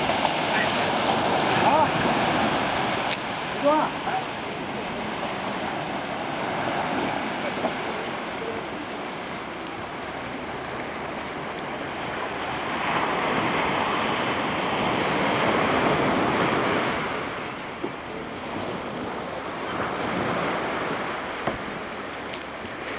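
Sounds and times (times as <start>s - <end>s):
ocean surf on a beach: 0.0s - 22.9s.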